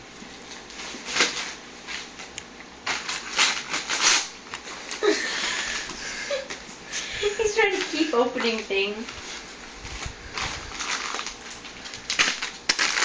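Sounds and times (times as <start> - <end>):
wrapping paper crinkling and tearing: 0.5 - 5.8, 7.3 - 13.0.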